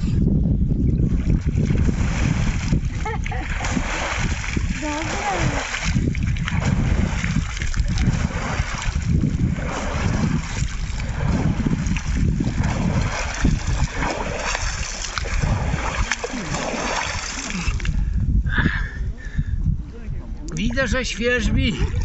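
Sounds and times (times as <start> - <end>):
water splashing: 1.0 - 18.1, 20.5 - 22.0.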